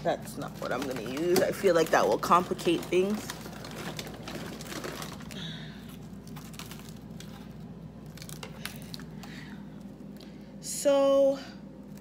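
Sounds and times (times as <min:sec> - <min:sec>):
plastic packages crinkling: 0:00.0 - 0:10.3
steady low hum: 0:00.0 - 0:12.0.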